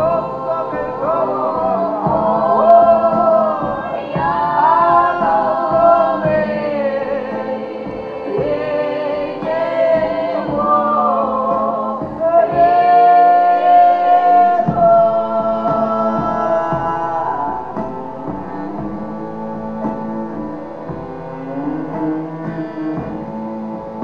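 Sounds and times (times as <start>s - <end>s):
drum beat: 0.0s - 24.0s
low cello drone: 0.0s - 24.0s
voices singing in harmony: 0.0s - 24.0s.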